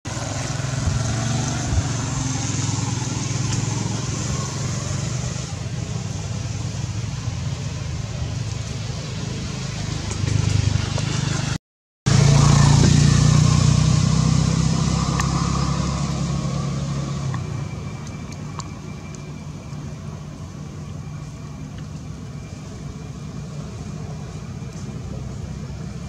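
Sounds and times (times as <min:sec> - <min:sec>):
outdoor background noise: 0:00.1 - 0:26.0
vehicle engine hum: 0:00.1 - 0:26.0.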